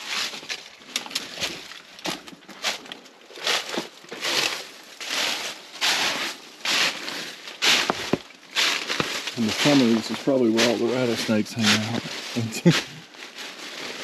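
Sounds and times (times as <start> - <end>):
footsteps crunching dry leaves: 0.0 - 14.0.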